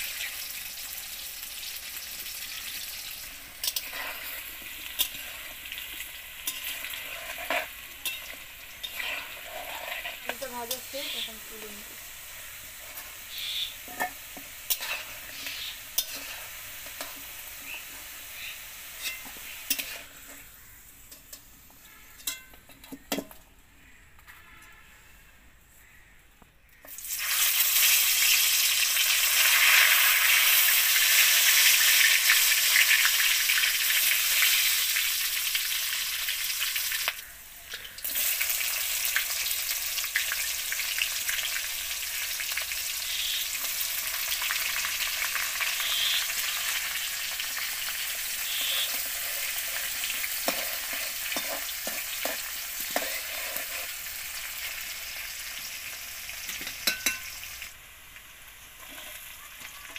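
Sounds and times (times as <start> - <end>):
hot oil sizzling in a pan: 0.0 - 22.4, 26.8 - 59.9.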